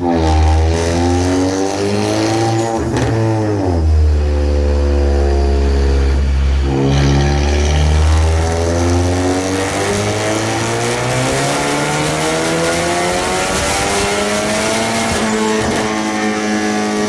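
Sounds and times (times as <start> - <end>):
car engine running on dyno: 0.0 - 17.0.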